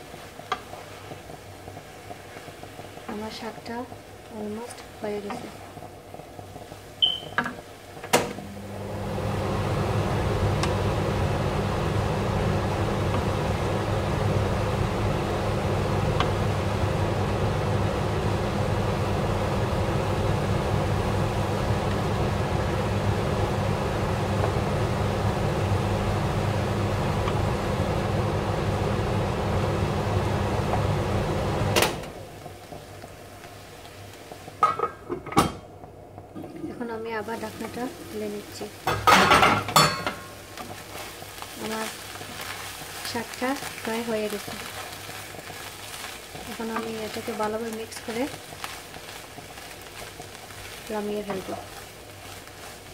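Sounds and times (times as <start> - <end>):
electric fan hum: 0.0 - 52.9.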